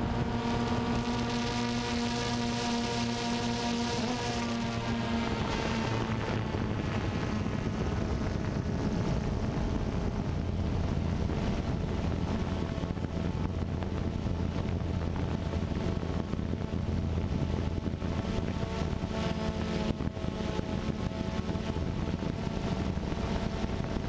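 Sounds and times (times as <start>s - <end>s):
low motor hum: 0.0s - 24.0s
wind on microphone: 0.0s - 24.0s.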